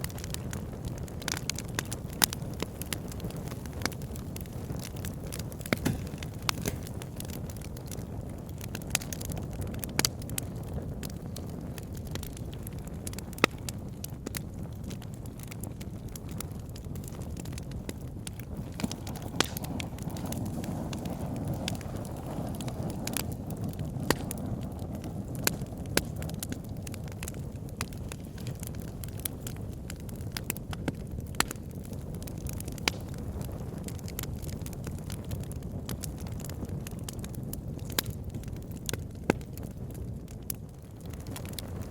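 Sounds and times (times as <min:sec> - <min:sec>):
fire crackling and popping: 0:00.0 - 0:41.9
fire flames rumbling: 0:00.0 - 0:41.9.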